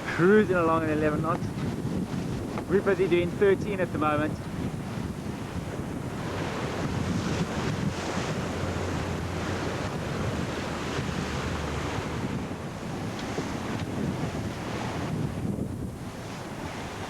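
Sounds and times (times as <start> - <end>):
water rushing past hull: 0.0 - 17.0
wind buffeting microphone: 0.0 - 17.0.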